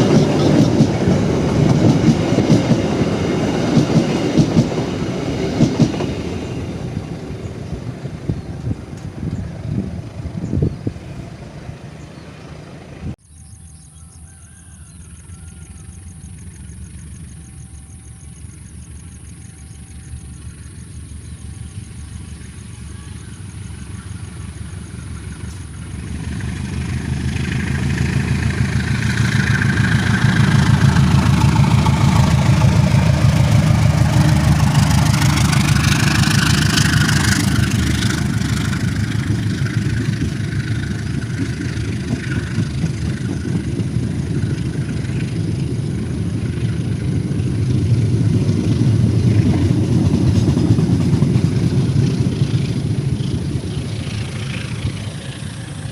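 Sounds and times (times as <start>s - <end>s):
train rumbling: 0.0s - 55.9s.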